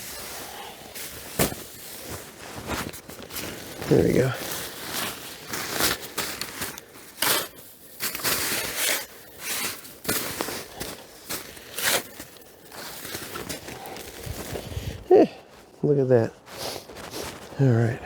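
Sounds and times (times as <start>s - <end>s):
snow crunching and scraping: 0.0s - 18.0s.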